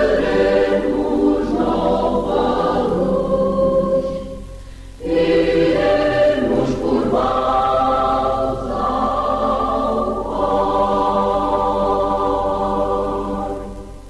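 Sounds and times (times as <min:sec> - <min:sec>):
choir singing a hymn: 0:00.0 - 0:14.0
low mains hum: 0:00.0 - 0:14.0.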